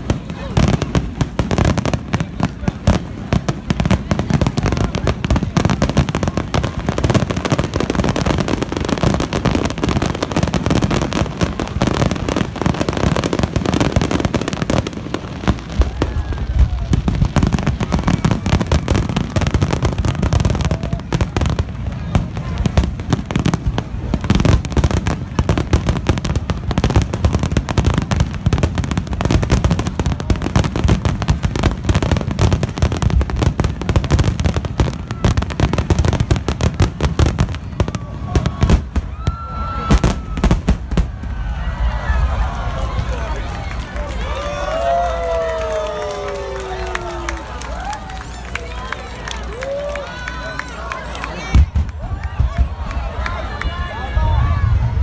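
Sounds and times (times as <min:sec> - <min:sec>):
fireworks booming and crackling: 0:00.0 - 0:48.4, 0:51.4 - 0:55.0.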